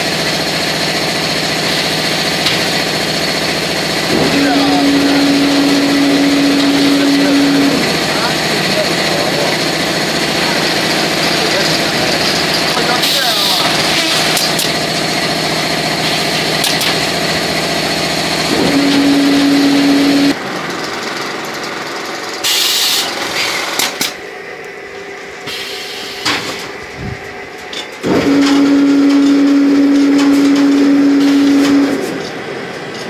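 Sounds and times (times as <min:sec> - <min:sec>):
sewing machine humming: 0:00.0 - 0:24.1, 0:26.8 - 0:32.8
conveyor and machinery noise: 0:00.0 - 0:33.0.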